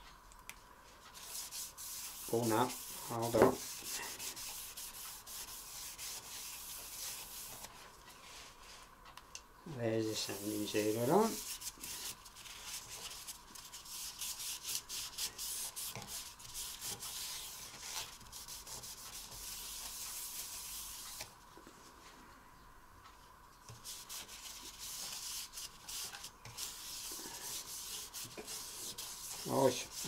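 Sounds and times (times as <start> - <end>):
paper towel wiping wood: 1.1 - 8.8, 10.1 - 21.3, 23.8 - 30.0.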